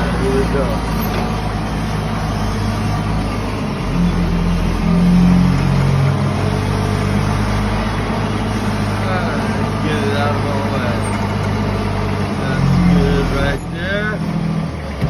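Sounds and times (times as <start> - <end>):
heavy equipment engine revving: 0.0 - 15.0.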